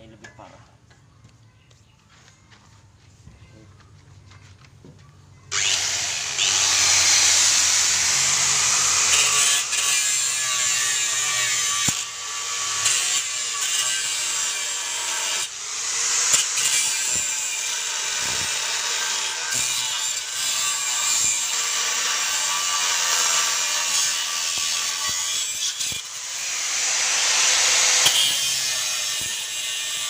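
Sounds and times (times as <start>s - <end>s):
angle grinder cutting steel: 5.5s - 30.0s.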